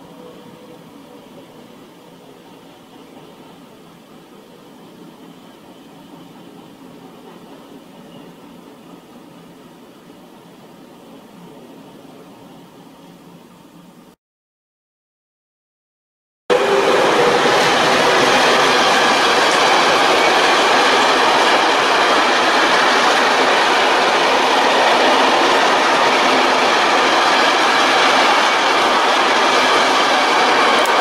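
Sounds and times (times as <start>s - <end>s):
train passing at speed: 0.0s - 14.2s, 16.5s - 31.0s.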